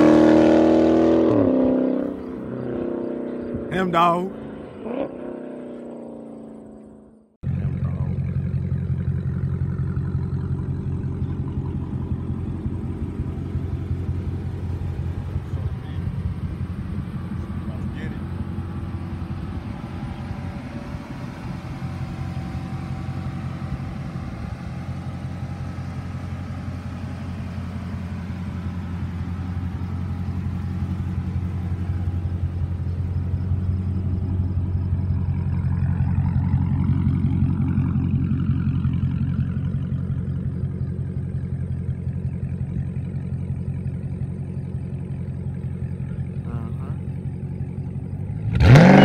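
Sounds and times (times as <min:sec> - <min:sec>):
car engine and exhaust droning: 0:00.0 - 0:49.0.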